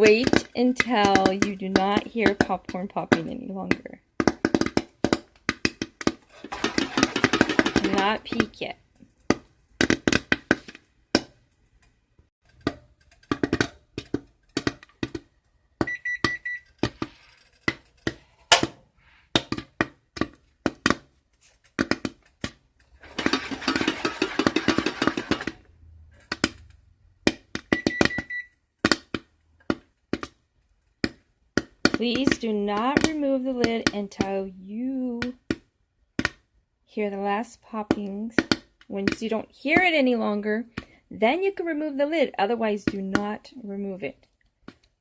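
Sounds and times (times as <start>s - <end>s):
popcorn popping in a covered pot: 0.0s - 11.6s, 12.4s - 30.4s, 31.0s - 36.5s, 37.7s - 41.0s.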